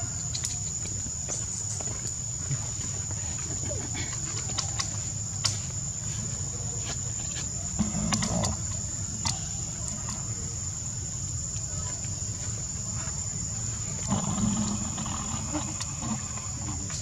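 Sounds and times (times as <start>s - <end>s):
insects shrilling: 3.1s - 17.0s.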